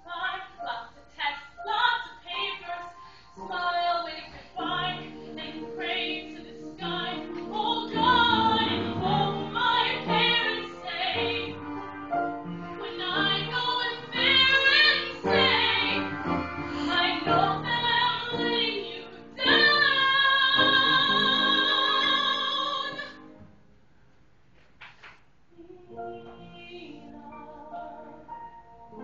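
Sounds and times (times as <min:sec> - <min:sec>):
woman singing: 0:00.0 - 0:11.6, 0:12.8 - 0:23.2, 0:25.5 - 0:28.3
piano accompaniment: 0:00.0 - 0:23.7, 0:25.7 - 0:29.0.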